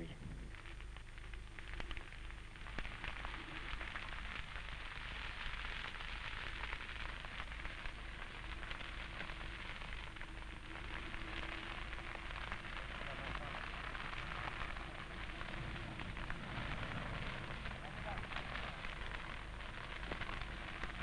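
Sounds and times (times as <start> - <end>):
dry grass crackling in fire: 0.0 - 21.0.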